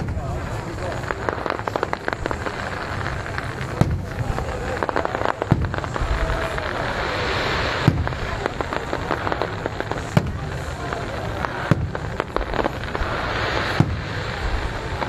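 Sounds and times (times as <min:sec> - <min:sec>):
firework crackling: 0:00.0 - 0:15.0
firework shells bursting: 0:00.0 - 0:15.0.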